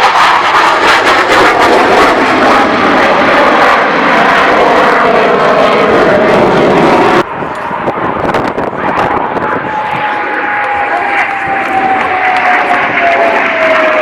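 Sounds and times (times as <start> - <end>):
fighter jet flying: 0.0 - 14.0.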